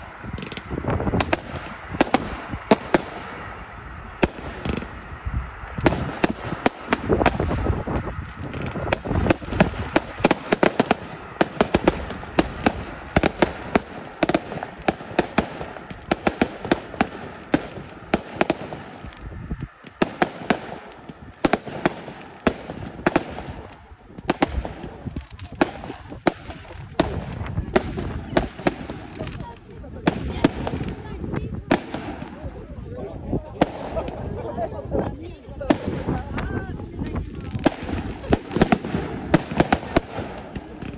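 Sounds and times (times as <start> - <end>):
continuous low rumble: 0.0 - 40.9
fireworks bangs and crackles: 0.0 - 40.9.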